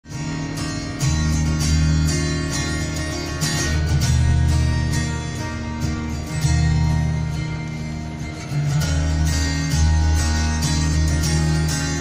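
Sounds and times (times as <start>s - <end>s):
steady bass notes: 0.0s - 12.0s
strummed acoustic guitar: 0.0s - 12.0s.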